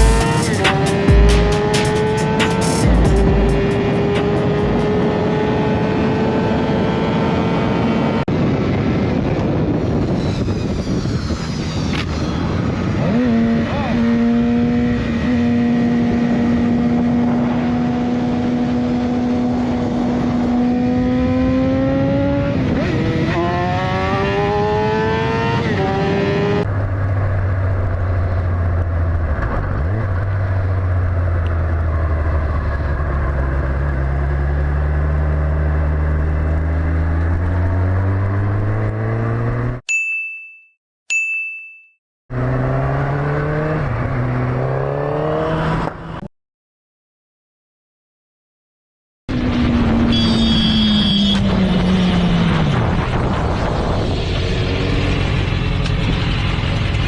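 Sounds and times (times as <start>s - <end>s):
motorcycle engine accelerating: 0.0s - 39.8s, 42.3s - 46.3s, 49.3s - 57.0s.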